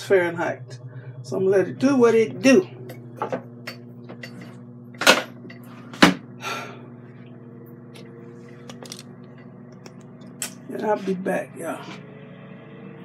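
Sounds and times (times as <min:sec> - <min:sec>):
air fryer fan humming: 0:00.0 - 0:13.0.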